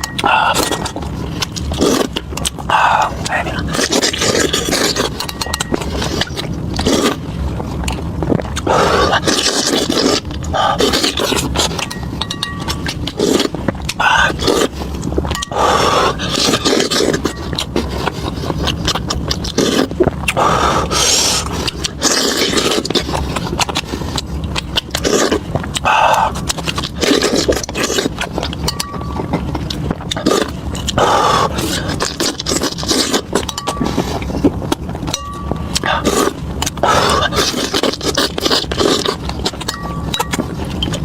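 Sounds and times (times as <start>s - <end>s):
close chewing sounds: 0.0s - 41.0s.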